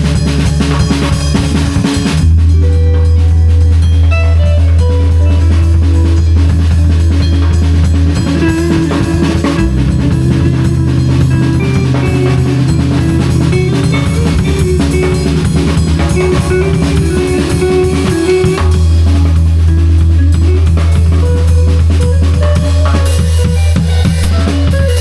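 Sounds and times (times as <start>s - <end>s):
bass notes: 0.0s - 25.0s
drum kit beat: 0.0s - 25.0s
guitar notes: 0.0s - 25.0s.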